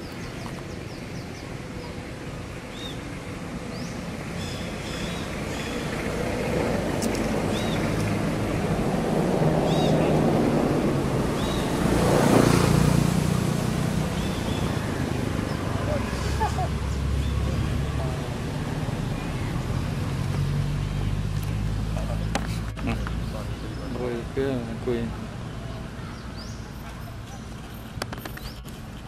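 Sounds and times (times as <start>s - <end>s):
motor vehicle passing: 0.0s - 28.9s.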